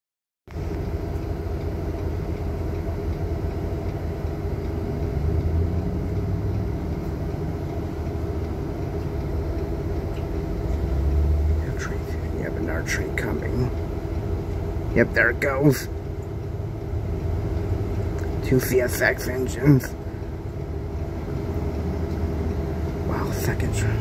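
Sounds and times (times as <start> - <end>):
bus engine idling: 0.5 - 24.0.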